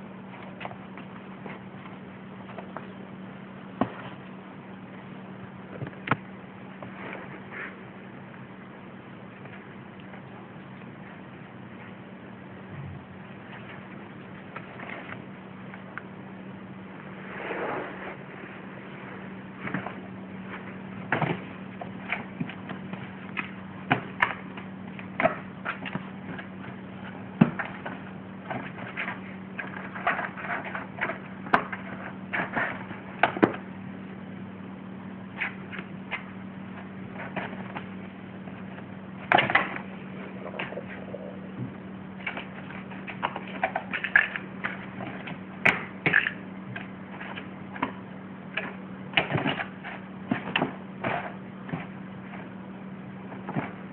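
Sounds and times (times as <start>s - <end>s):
low hum: 0.0s - 53.9s.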